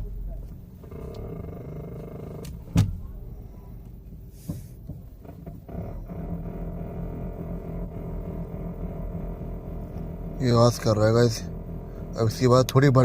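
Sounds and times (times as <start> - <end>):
steady low hum: 0.0 - 13.0
steering knock: 0.2 - 13.0.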